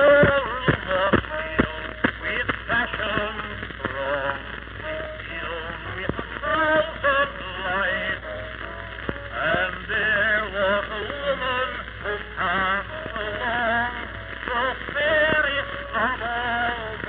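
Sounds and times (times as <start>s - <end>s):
man singing with vibrato: 0.0s - 17.0s
record clicks: 0.0s - 17.0s
record surface noise: 0.0s - 17.0s.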